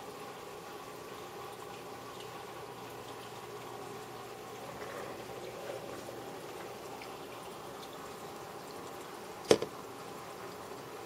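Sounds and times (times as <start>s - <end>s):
aquarium water burbling: 0.0s - 11.0s.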